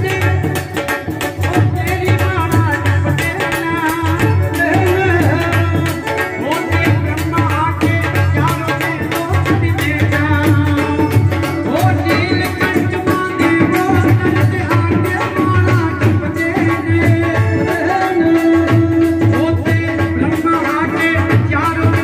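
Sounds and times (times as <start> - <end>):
devotional singing: 0.0 - 22.0
fast hand-drum rhythm: 0.0 - 22.0
instrumental backing: 0.0 - 22.0.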